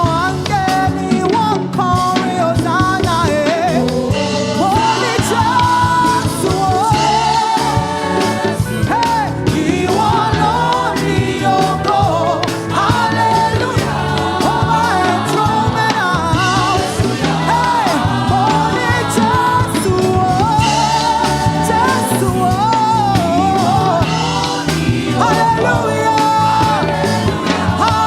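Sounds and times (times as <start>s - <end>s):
band playing gospel music: 0.0s - 28.0s.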